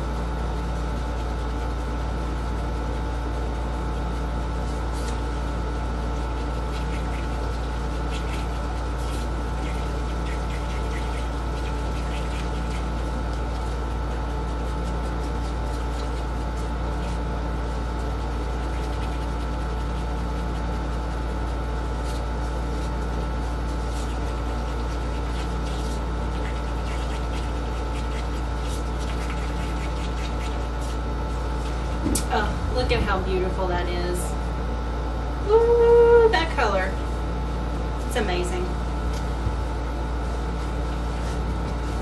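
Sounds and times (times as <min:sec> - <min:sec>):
low mechanical hum: 0:00.0 - 0:42.0.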